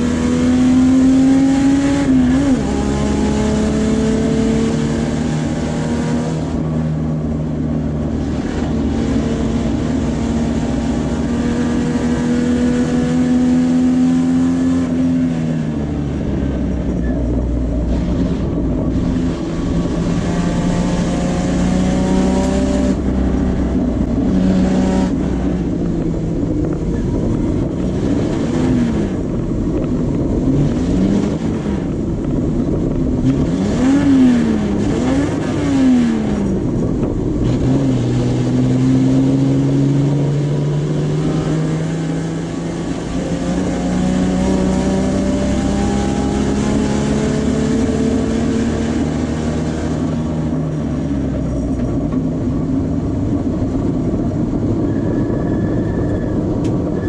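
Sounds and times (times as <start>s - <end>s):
race car engine at full throttle: 0.0s - 57.0s
road and wind noise: 0.0s - 57.0s.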